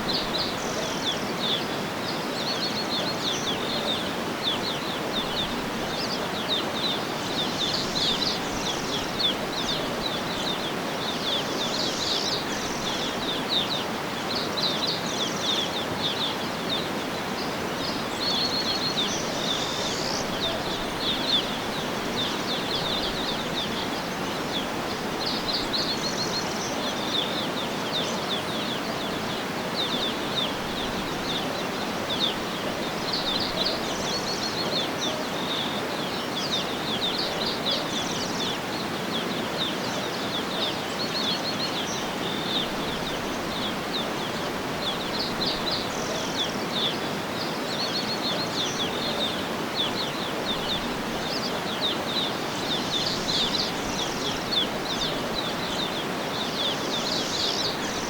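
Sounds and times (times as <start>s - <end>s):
small birds chirping and trilling: 0.0s - 58.0s
steady outdoor hiss: 0.0s - 58.0s.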